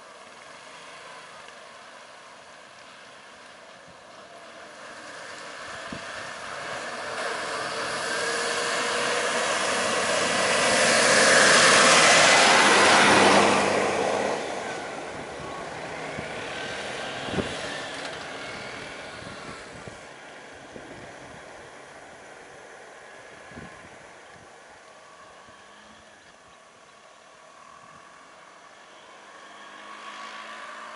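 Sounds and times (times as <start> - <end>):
bus driving past: 0.0 - 30.9
traffic: 0.0 - 30.9.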